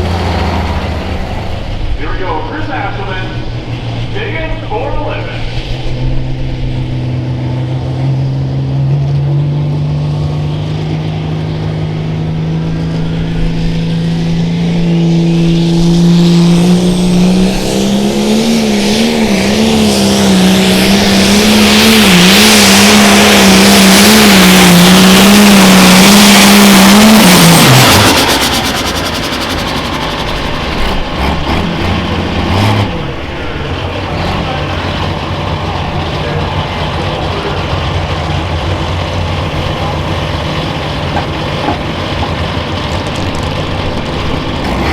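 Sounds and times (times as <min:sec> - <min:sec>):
tractor diesel engine running hard: 0:00.0 - 0:44.9.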